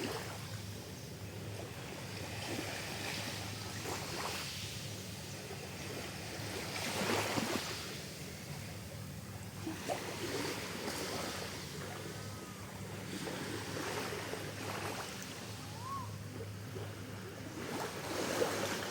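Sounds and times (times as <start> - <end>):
sea waves washing: 1.5 - 8.8, 9.5 - 18.9.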